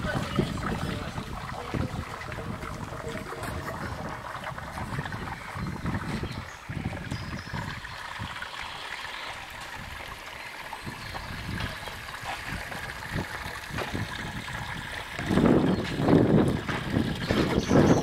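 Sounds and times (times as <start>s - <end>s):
wind buffeting microphone: 0.0s - 8.7s, 9.4s - 18.0s
water trickling and gurgling: 0.0s - 18.0s.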